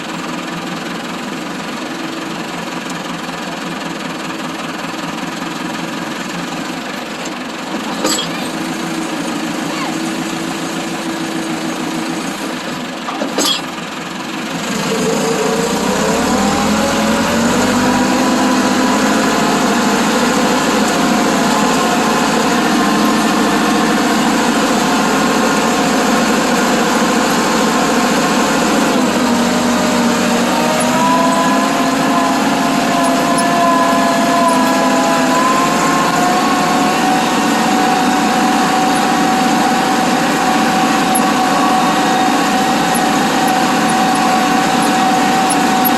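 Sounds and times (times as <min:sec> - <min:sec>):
tractor diesel engine revving: 0:00.0 - 0:45.9.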